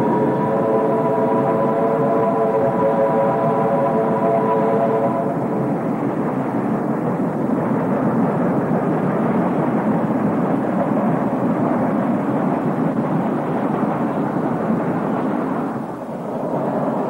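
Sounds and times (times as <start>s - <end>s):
steam locomotive rumbling: 0.0s - 17.0s.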